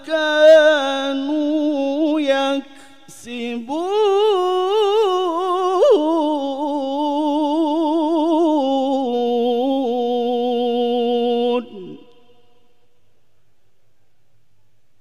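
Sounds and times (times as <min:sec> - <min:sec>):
man chanting melodically: 0:00.0 - 0:12.6.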